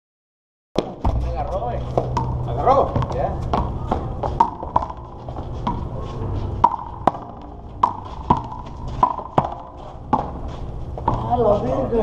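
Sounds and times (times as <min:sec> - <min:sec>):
rubber ball bouncing on concrete: 0:00.8 - 0:11.5.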